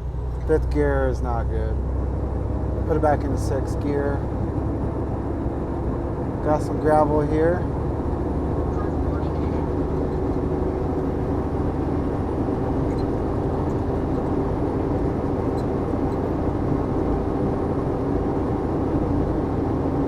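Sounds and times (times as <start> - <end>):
truck diesel engine drone: 0.0 - 20.0
tyre and road noise: 0.0 - 20.0.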